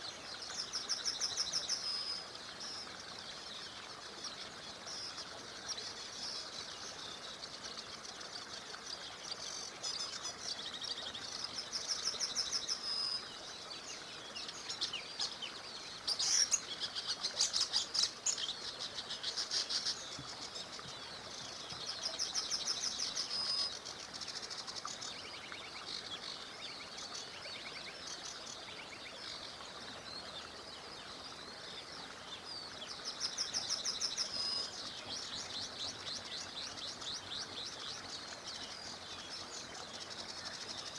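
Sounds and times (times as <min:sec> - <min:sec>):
songbirds trilling: 0:00.0 - 0:40.9.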